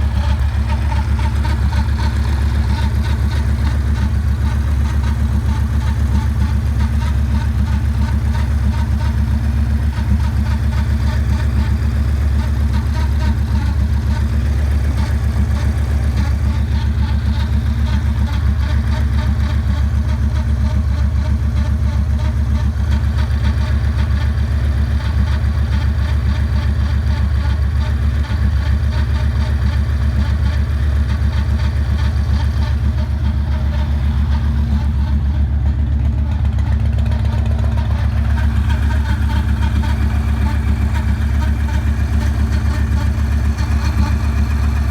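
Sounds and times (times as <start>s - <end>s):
motorcycle engine idling: 0.0s - 44.9s
strange engine noise: 0.0s - 44.9s.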